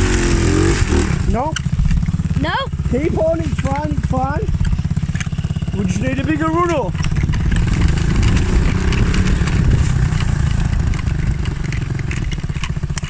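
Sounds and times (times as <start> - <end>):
small motorbike engine revving: 0.0 - 13.0.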